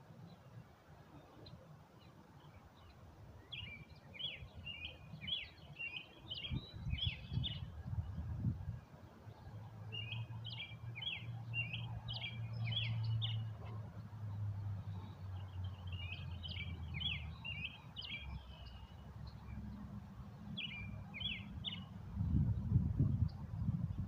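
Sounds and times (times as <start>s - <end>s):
songbird chirping: 0.1s - 24.0s.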